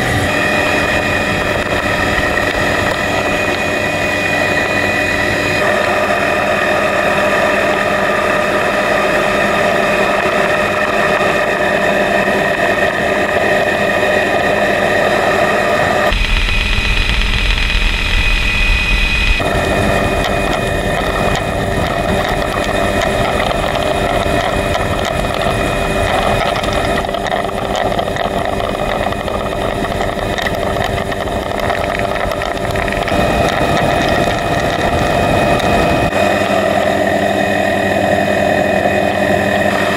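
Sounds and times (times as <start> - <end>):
helicopter turbine and rotor drone: 0.0 - 39.9
wind rush: 0.0 - 39.9.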